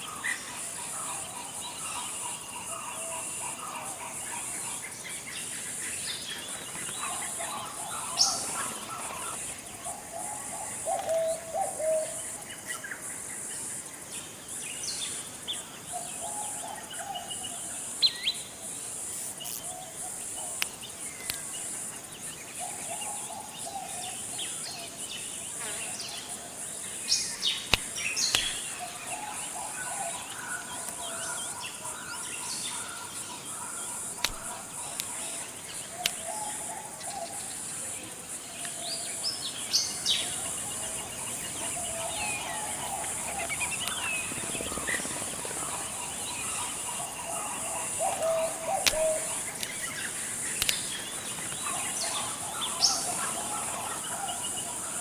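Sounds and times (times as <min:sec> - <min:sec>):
birds chirping and warbling: 0:00.0 - 0:13.5, 0:14.2 - 0:55.0
insects droning: 0:00.0 - 0:55.0.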